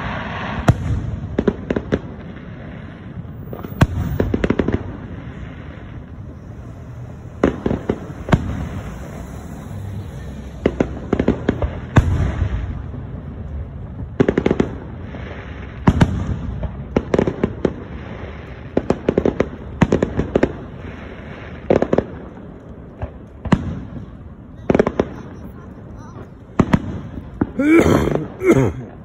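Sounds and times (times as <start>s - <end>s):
fireworks bursting with bangs: 0.0s - 29.0s.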